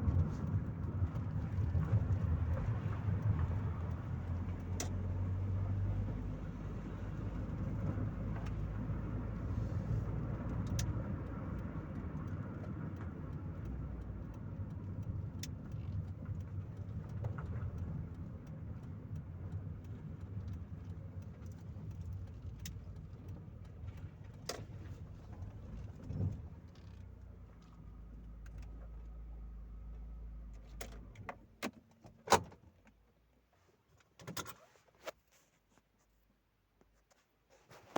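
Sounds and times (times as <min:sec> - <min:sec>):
road noise: 0:00.0 - 0:32.5
car engine: 0:00.0 - 0:32.9.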